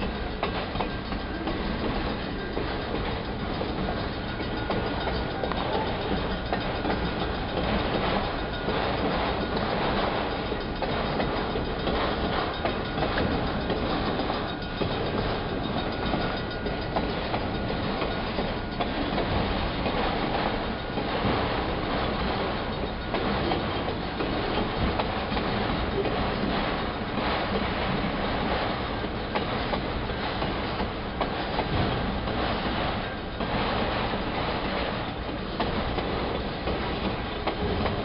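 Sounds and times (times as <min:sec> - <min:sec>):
freight train rumbling past: 0:00.0 - 0:38.0
wheels clacking over rail joints: 0:00.0 - 0:38.0.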